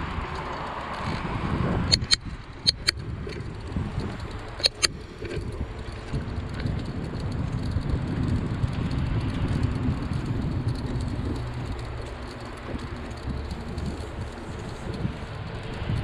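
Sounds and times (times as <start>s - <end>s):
bicycle rumbling on concrete: 0.0s - 16.0s
wind buffeting microphone: 0.0s - 16.0s.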